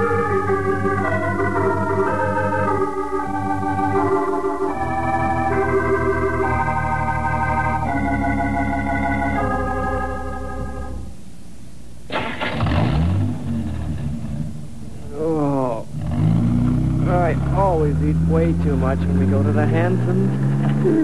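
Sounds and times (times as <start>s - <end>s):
organ chords: 0.0s - 21.0s.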